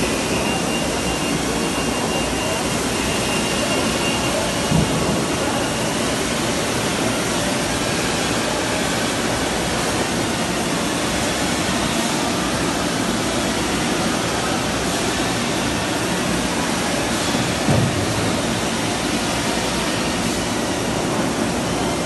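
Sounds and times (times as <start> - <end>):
factory machinery running: 0.0 - 22.0.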